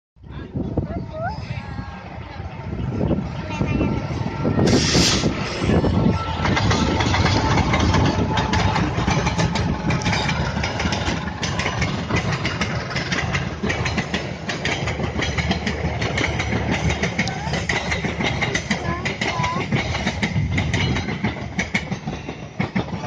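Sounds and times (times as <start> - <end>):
locomotive engine rumble: 0.2 - 23.0
train wheels clicking on rails: 2.8 - 23.0.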